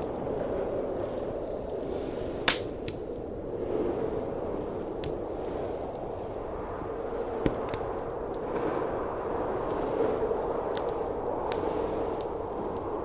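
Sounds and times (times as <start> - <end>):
blizzard wind: 0.0 - 13.0
wood fire crackling and popping: 0.0 - 13.0.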